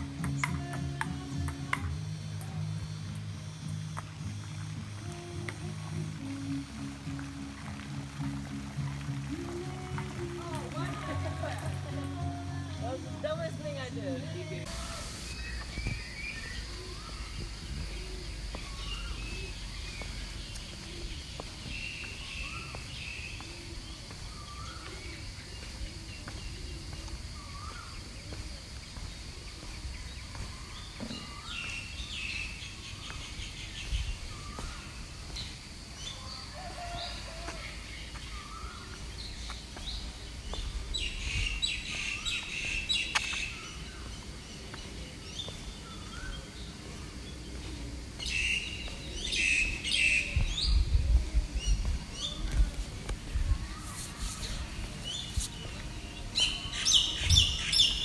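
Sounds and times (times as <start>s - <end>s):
birds chirping: 0.0s - 58.0s
steady high hiss: 0.0s - 58.0s.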